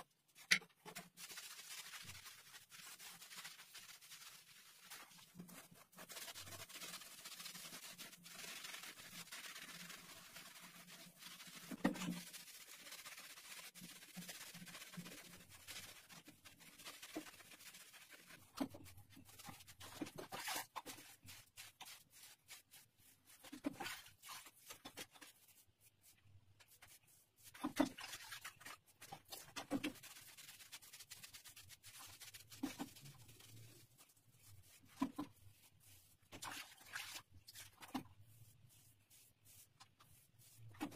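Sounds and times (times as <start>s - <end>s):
sponge wiping over tiles: 0.1s - 40.9s.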